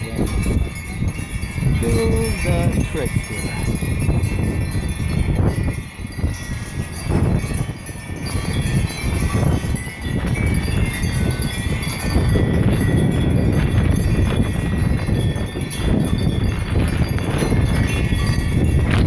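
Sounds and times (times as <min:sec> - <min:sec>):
metal wind chimes ringing: 0:00.0 - 0:19.0
wind rumble on microphone: 0:00.0 - 0:19.0.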